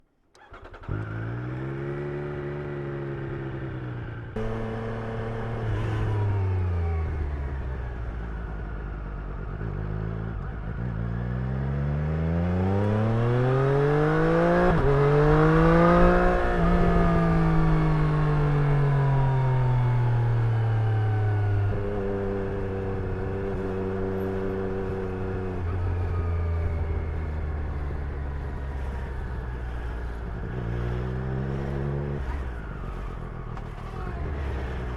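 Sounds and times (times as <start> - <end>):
motorcycle engine revving: 0.4 - 34.9.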